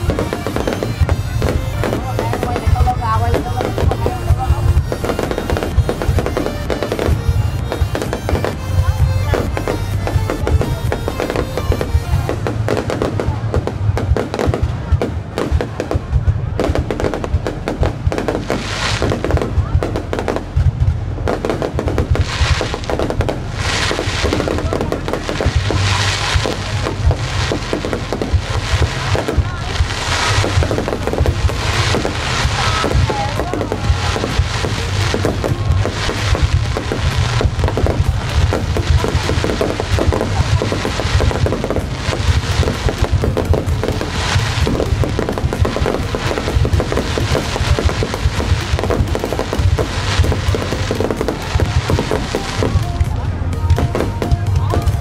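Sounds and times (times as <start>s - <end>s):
music: 0.0s - 14.5s, 16.2s - 55.0s
fireworks bangs: 0.0s - 55.0s
fireworks crackling: 0.0s - 55.0s.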